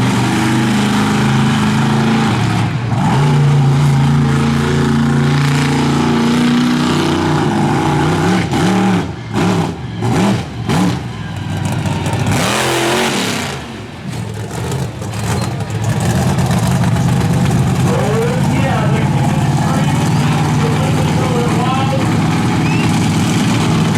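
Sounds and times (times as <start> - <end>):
truck engine revving: 0.0 - 23.9.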